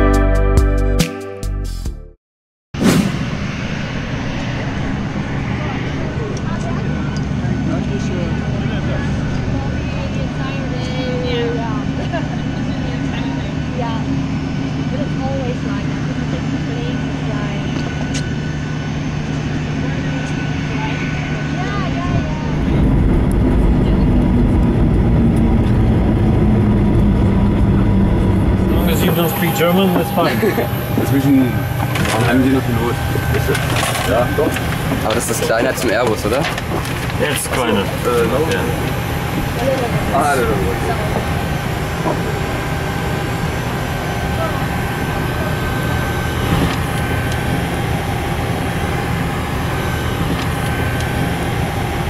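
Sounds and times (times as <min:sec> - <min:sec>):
jet engines heard from cabin: 0:02.8 - 0:52.0
low hum: 0:02.8 - 0:52.0
thin steady whine: 0:03.2 - 0:52.0.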